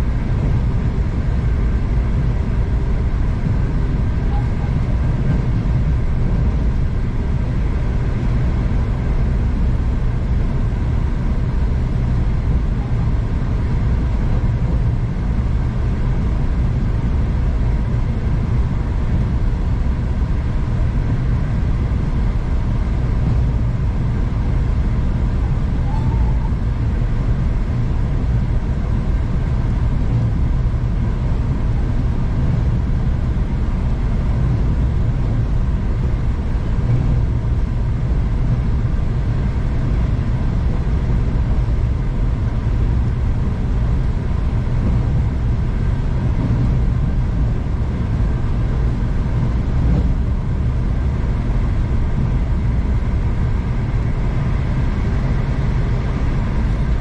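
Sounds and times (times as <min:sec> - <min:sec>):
faint hum tones: 0:00.0 - 0:57.0
train running low rumble: 0:00.0 - 0:57.0.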